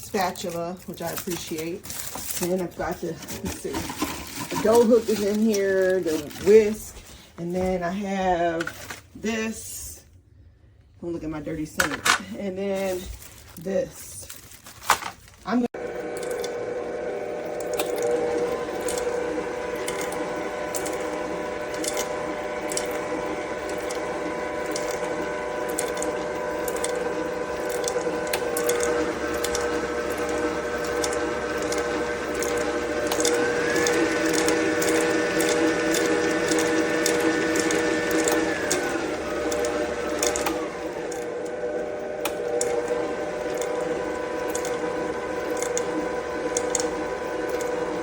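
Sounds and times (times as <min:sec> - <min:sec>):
stand mixer motor whine: 0:00.0 - 0:07.1, 0:15.8 - 0:48.0.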